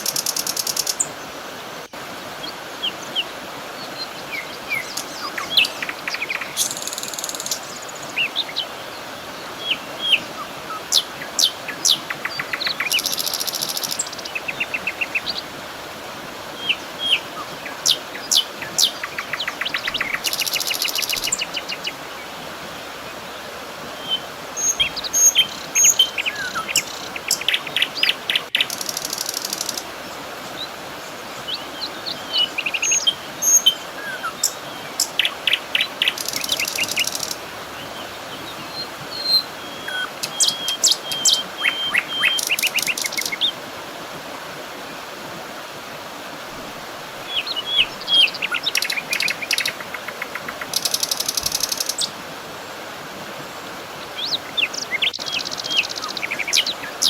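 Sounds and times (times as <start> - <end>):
songbirds chirping and trilling: 0.0 - 15.5, 16.6 - 43.6, 47.2 - 52.2, 53.9 - 57.0
faint outdoor hiss: 0.0 - 57.0.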